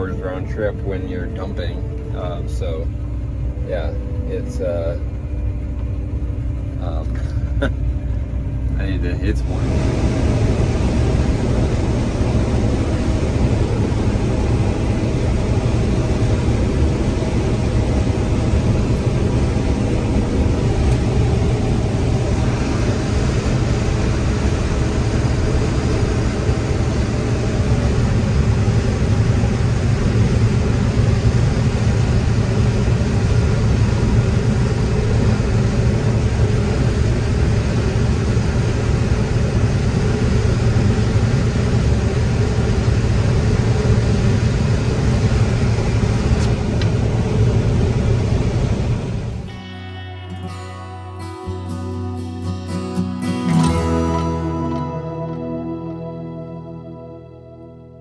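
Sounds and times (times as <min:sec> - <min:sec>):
combine harvester hum: 0:00.0 - 0:58.0.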